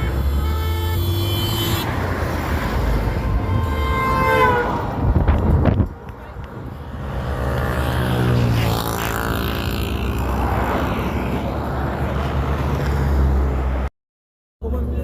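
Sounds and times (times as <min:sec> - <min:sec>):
motor vehicle rumble: 0:00.0 - 0:13.9.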